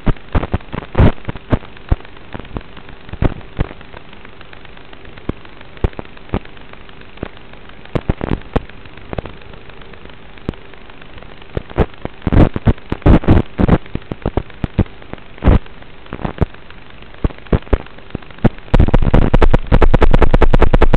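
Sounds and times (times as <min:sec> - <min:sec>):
sharp pops: 0:00.0 - 0:20.9
static hiss and crackle: 0:00.0 - 0:20.9.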